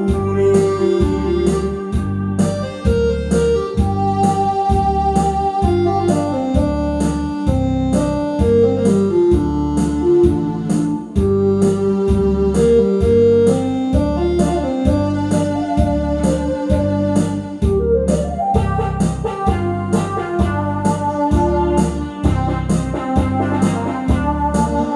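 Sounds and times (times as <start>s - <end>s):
bass and drum beat: 0.0s - 24.9s
electronic keyboard melody: 0.0s - 24.9s.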